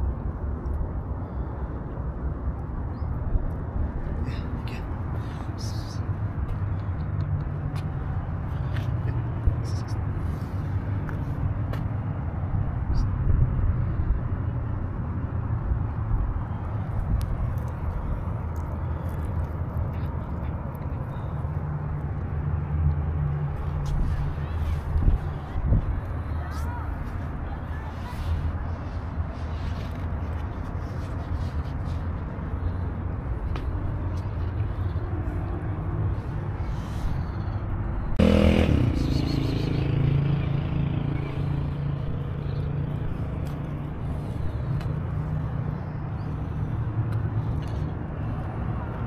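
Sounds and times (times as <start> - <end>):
distant city traffic rumble: 0.0 - 49.0.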